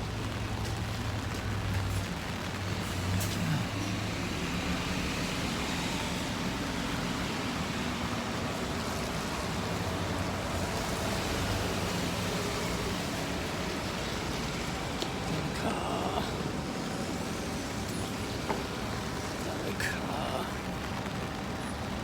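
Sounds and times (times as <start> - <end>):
traffic engines running: 0.0 - 22.0
tyres hissing on wet road: 0.0 - 22.0.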